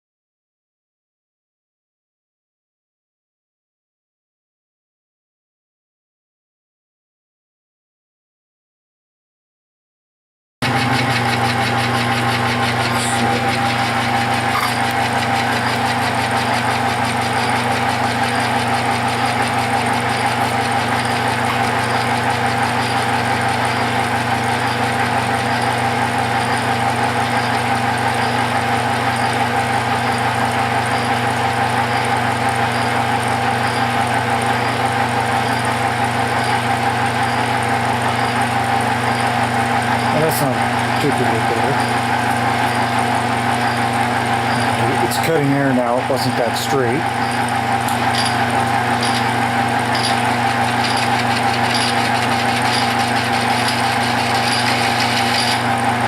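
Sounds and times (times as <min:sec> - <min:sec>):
metal lathe running: 0:10.6 - 0:56.0.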